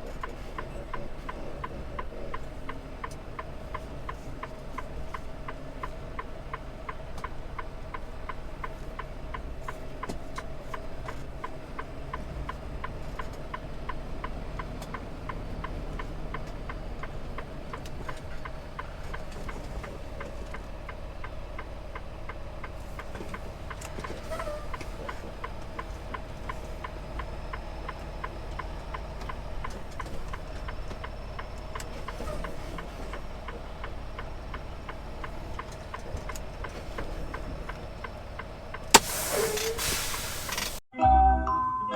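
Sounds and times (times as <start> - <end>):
truck rumbling on road: 0.0 - 40.9.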